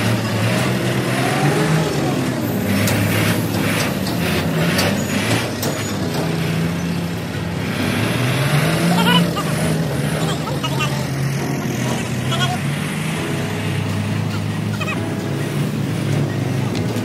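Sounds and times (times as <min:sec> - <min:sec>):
combine harvester engine: 0:00.0 - 0:17.0.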